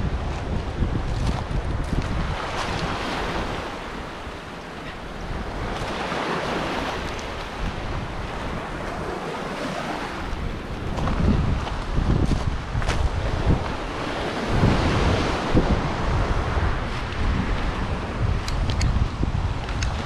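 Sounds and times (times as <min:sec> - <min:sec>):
sea surf washing in: 0:00.0 - 0:20.0
wind rumble on microphone: 0:00.0 - 0:20.0.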